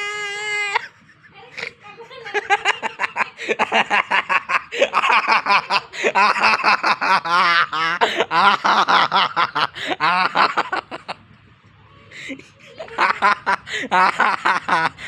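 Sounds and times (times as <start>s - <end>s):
person laughing: 0.0s - 11.2s, 12.2s - 15.0s.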